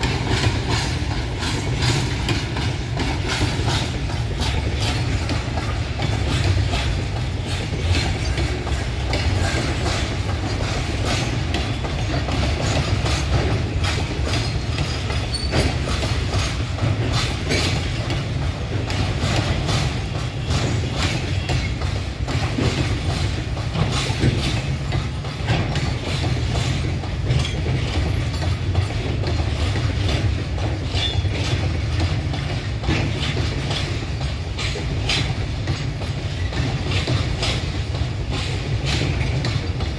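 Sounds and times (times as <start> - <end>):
wagon wheels clacking over rail joints: 0.0 - 39.9.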